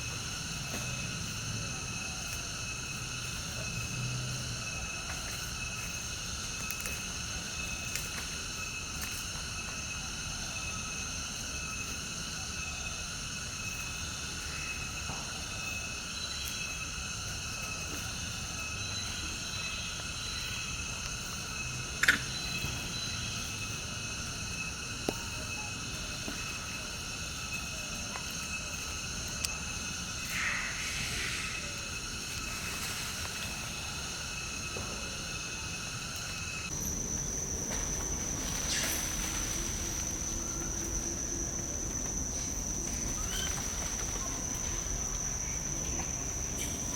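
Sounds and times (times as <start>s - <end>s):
insect chorus droning: 0.0s - 46.9s.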